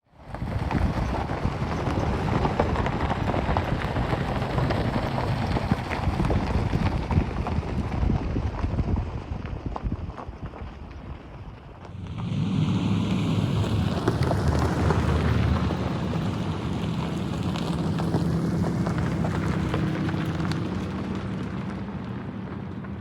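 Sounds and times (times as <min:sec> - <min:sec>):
off-road vehicle rumble: 0:00.1 - 0:23.0
wind noise on microphone: 0:00.2 - 0:23.0
tyres crunching on gravel: 0:00.3 - 0:23.0.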